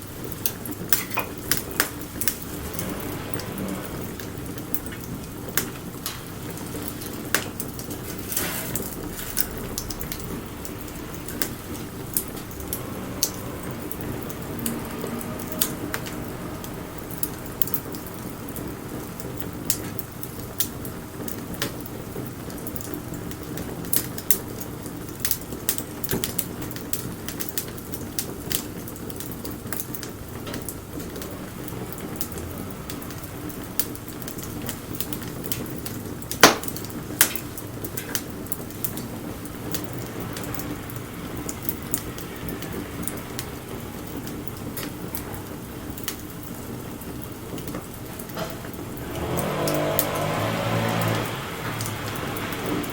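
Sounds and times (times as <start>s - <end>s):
sharp pops and snaps of fire: 0.0s - 52.9s
wood campfire crackling: 0.0s - 52.9s.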